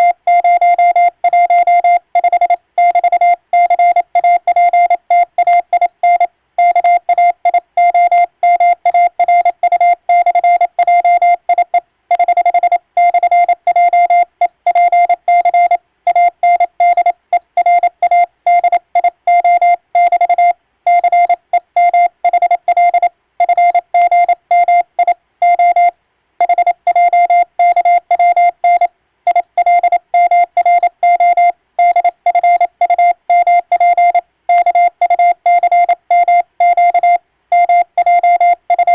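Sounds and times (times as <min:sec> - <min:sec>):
morse code beeps: 0:00.0 - 0:38.9.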